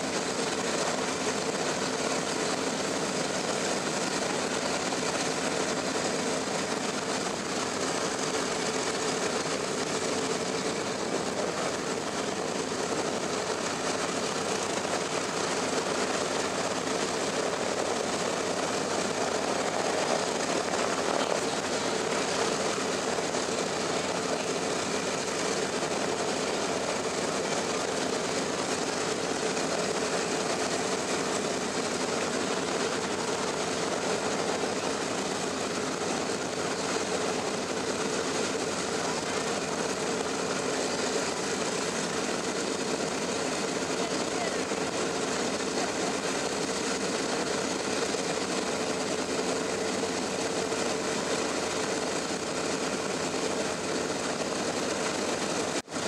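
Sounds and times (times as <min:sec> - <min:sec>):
piston aircraft engines droning: 0:00.0 - 0:56.0.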